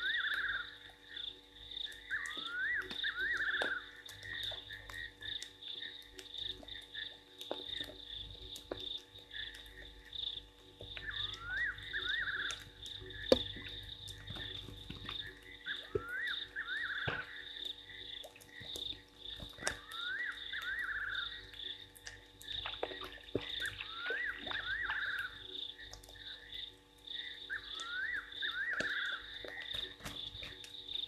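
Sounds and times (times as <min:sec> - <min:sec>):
rising frog chirps: 0:00.0 - 0:07.2, 0:10.9 - 0:30.3
frogs trilling: 0:00.0 - 0:31.0.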